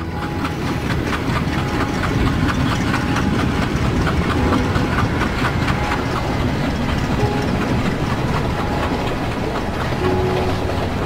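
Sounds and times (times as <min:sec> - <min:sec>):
train rumbling on rails: 0:00.0 - 0:11.0
wheels clattering over rail joints: 0:00.0 - 0:11.0.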